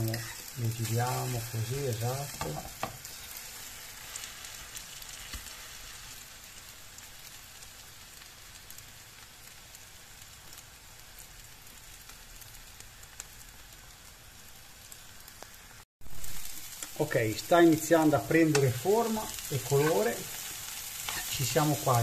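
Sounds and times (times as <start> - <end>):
eggs sizzling in oil in a frying pan: 0.0 - 22.0.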